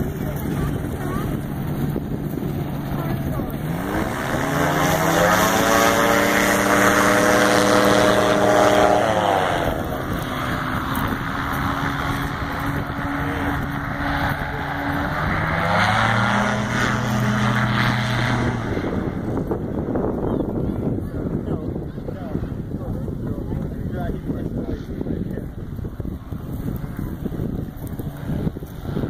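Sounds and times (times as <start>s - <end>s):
engine and propeller running: 0.0s - 29.0s.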